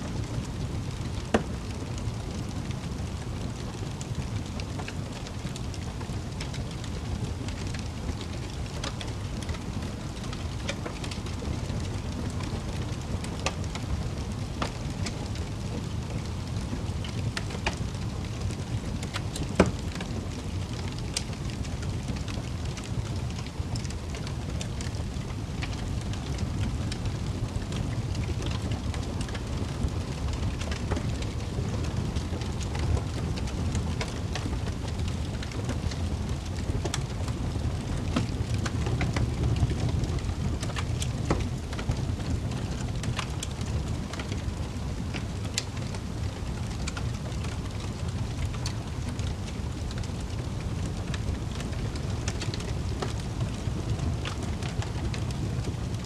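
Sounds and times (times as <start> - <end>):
wood fire crackling: 0.0 - 56.0
fire pops and snaps: 0.5 - 56.0.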